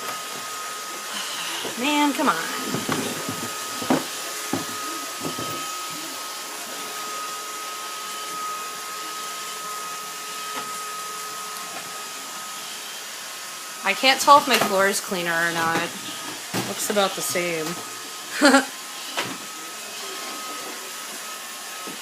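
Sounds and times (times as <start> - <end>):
robot vacuum whirring: 0.0 - 22.0.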